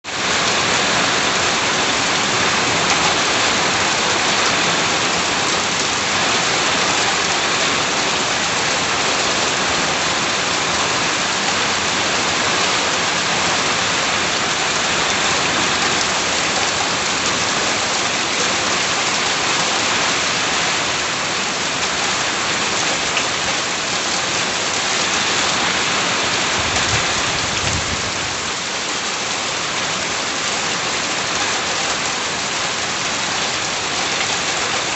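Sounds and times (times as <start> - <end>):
rain falling on house: 0.0 - 34.9.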